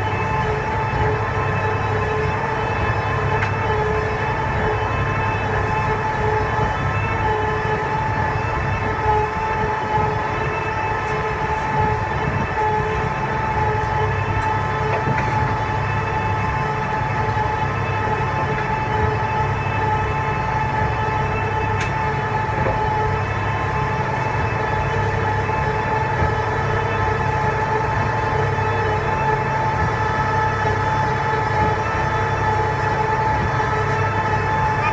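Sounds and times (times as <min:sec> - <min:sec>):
feed mixer machine drone: 0:00.0 - 0:34.9.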